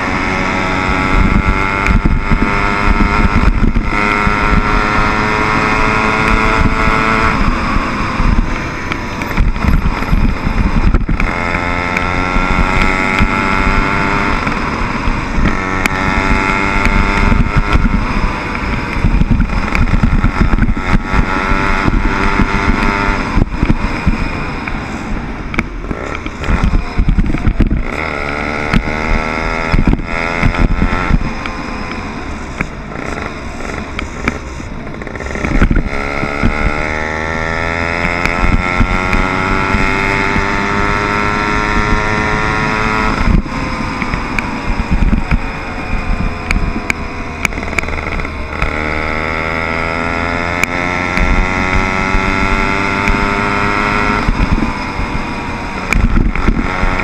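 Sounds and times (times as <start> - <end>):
motorbike engine revving: 0.0 - 57.0
wind noise: 0.0 - 57.0.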